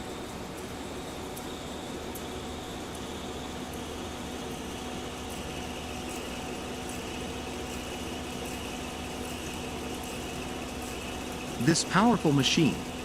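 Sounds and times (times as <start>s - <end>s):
milling machine humming: 0.6s - 13.0s.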